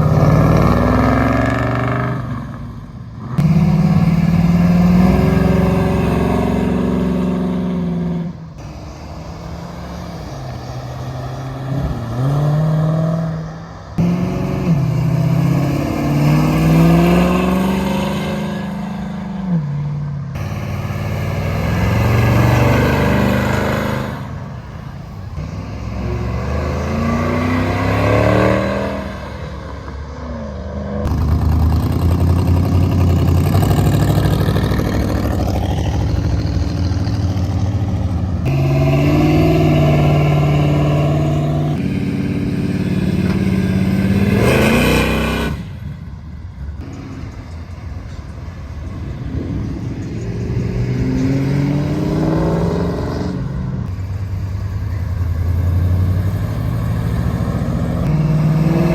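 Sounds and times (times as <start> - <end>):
car engines revving hard: 0.0 - 58.9.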